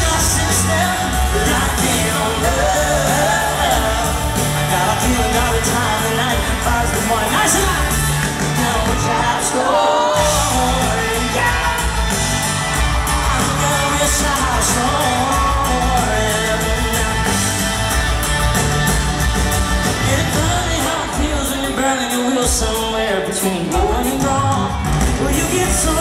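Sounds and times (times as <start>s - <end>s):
bass: 0.0s - 9.6s, 10.2s - 21.8s, 23.7s - 26.0s
man singing lead: 0.0s - 18.0s, 19.9s - 26.0s
acoustic guitar: 0.0s - 26.0s
drums: 0.0s - 26.0s.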